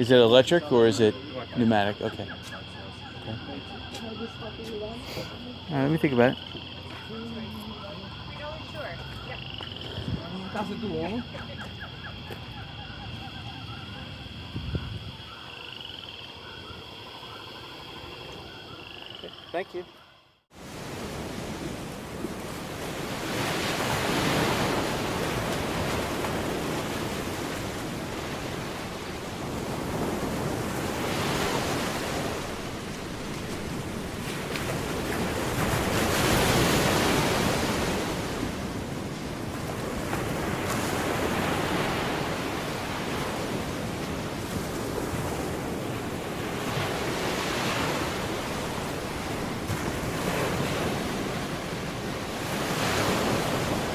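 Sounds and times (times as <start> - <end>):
ocean waves washing in and out: 0.0 - 14.6, 15.2 - 53.9.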